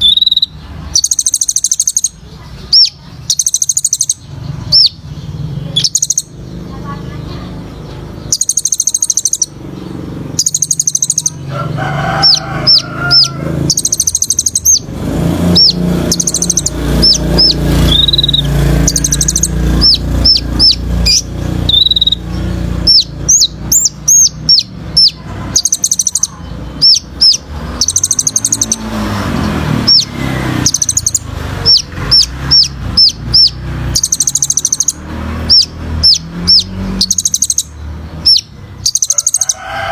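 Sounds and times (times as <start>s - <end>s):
sunbird singing trills: 0.0s - 11.6s, 12.2s - 39.9s.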